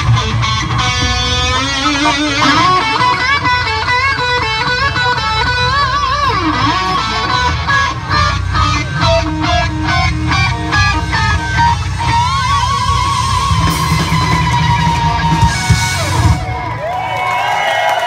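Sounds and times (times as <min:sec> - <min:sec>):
electric guitar lead: 0:00.0 - 0:17.4
bass guitar: 0:00.0 - 0:17.5
drums: 0:00.0 - 0:18.0.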